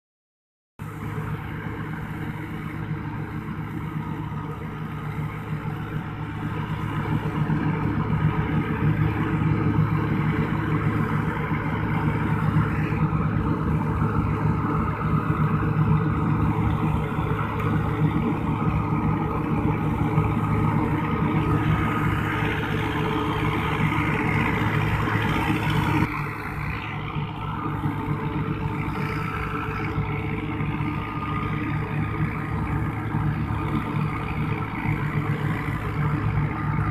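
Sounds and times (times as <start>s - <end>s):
tractor diesel engines running: 0.8s - 36.9s.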